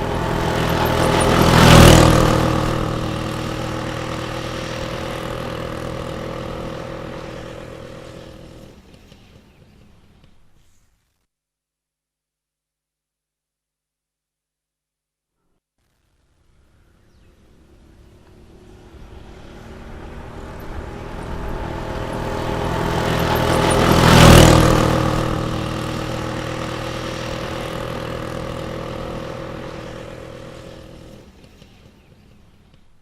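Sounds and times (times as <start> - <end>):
motorbike passing by: 0.0 - 10.6, 16.7 - 33.0.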